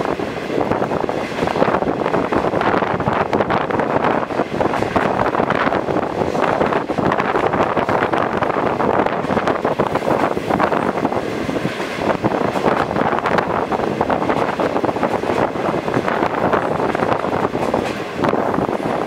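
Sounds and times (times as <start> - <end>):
train carriage rumble and rattle: 0.0 - 19.0
wind buffeting microphone: 0.0 - 19.0.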